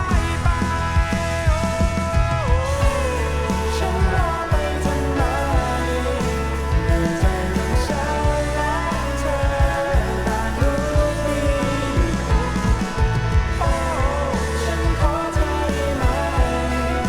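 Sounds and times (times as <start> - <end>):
rock music from vinyl record: 0.0 - 17.0.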